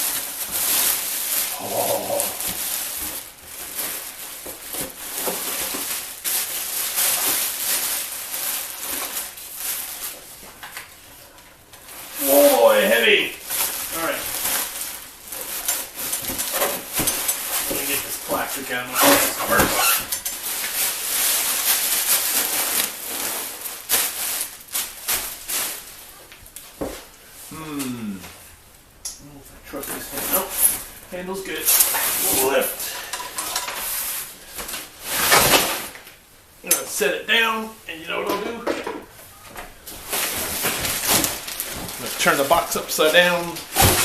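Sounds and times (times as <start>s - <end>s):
cardboard and styrofoam rustling: 0.0s - 27.4s, 29.7s - 36.2s, 38.5s - 44.0s
plastic wrapping crinkling: 0.0s - 27.5s, 29.6s - 37.0s, 39.1s - 44.0s.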